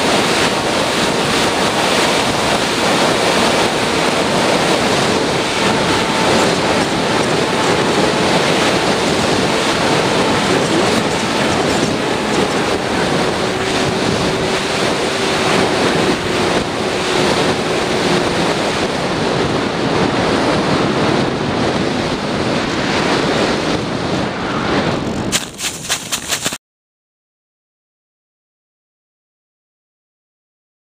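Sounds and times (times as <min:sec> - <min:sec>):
electric motor and propeller hum: 0:00.0 - 0:26.6
wind rushing over microphone: 0:00.0 - 0:26.6.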